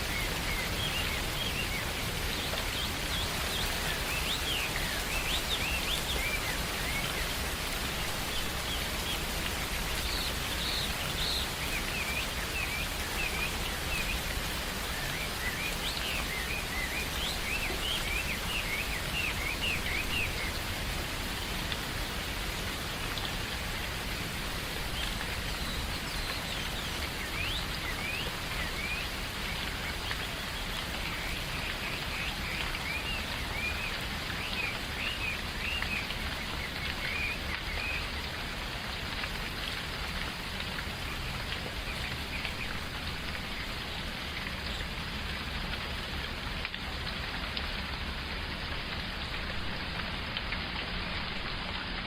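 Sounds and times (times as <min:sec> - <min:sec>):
rain falling in forest: 0:00.0 - 0:52.0.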